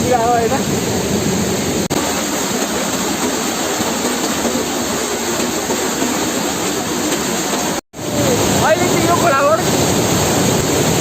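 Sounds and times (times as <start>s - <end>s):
heavy rain: 0.0s - 11.0s
waterfall rushing: 0.0s - 11.0s.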